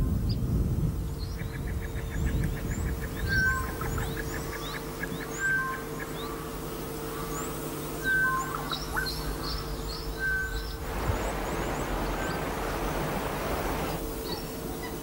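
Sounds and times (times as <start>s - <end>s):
birds calling: 1.1s - 15.0s.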